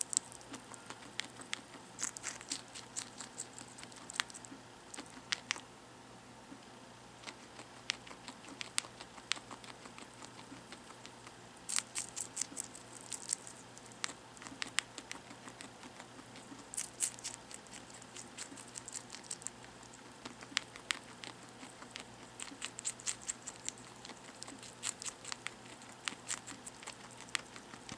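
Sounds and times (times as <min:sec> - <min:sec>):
guinea pig chewing: 0:00.0 - 0:05.7, 0:06.5 - 0:27.9.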